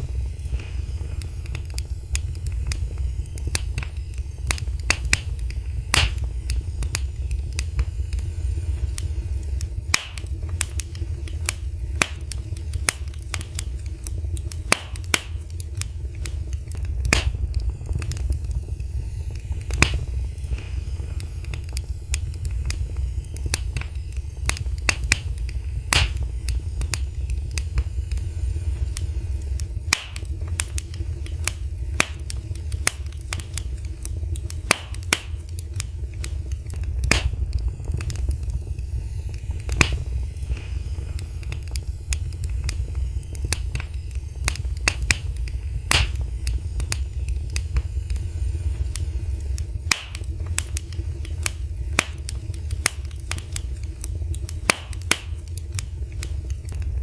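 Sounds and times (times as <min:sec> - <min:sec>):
fire crackling: 0:00.0 - 0:57.0
low rumble: 0:00.0 - 0:57.0.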